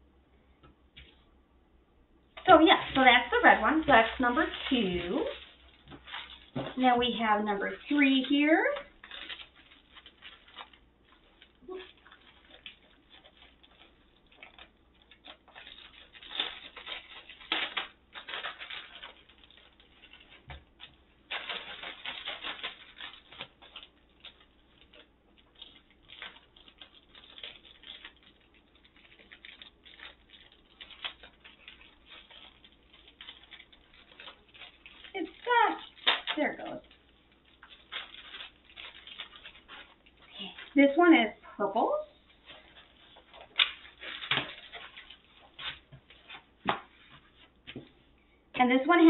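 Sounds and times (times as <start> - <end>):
plastic packaging crinkling: 2.3 - 49.0.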